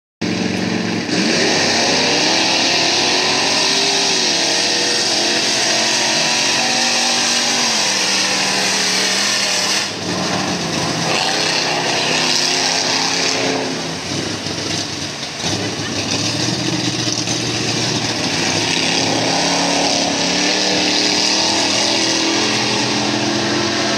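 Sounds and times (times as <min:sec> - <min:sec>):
truck engines at full throttle: 0:00.2 - 0:23.9
loud hissing roar: 0:01.1 - 0:14.4, 0:15.6 - 0:23.9.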